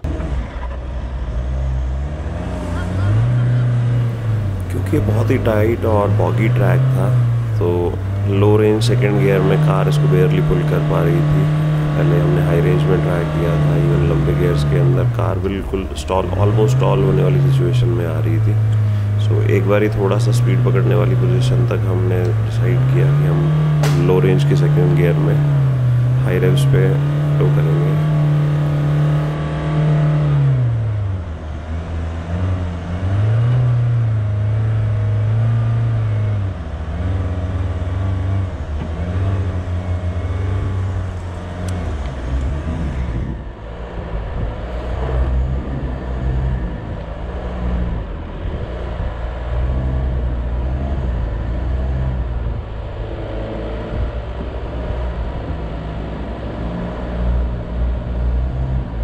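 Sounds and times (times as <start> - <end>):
engine labouring: 0.0 - 59.0.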